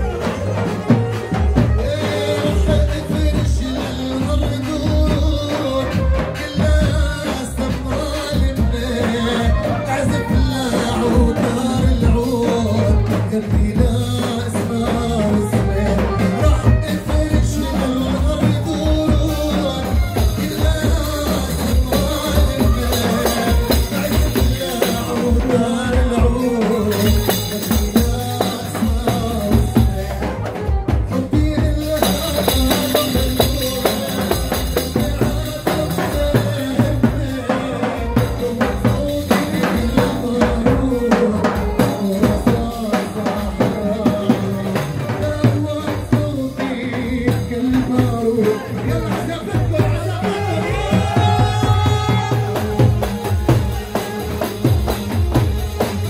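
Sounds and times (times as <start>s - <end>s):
frame drums beating: 0.0s - 56.0s
man singing into a microphone: 0.0s - 56.0s.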